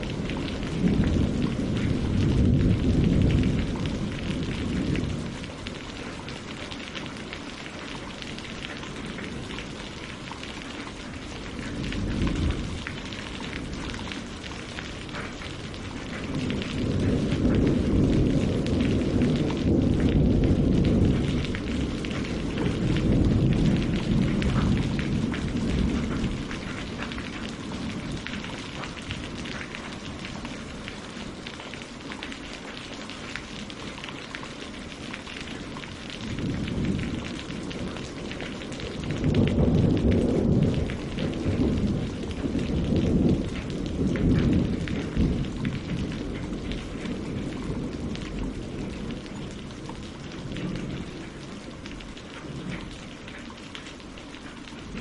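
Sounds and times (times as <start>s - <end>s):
rain on leaves and water: 0.0s - 55.0s.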